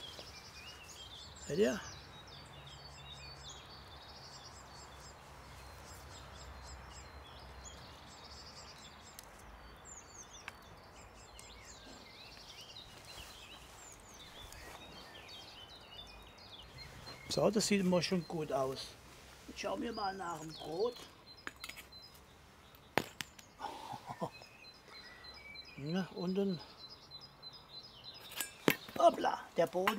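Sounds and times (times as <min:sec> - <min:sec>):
outdoor background noise: 0:00.0 - 0:29.9
songbirds chirping and trilling: 0:00.0 - 0:29.9.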